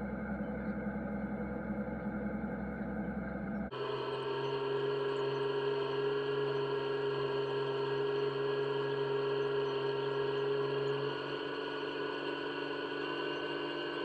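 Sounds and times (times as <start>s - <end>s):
farm machinery engine droning: 0.0s - 14.0s.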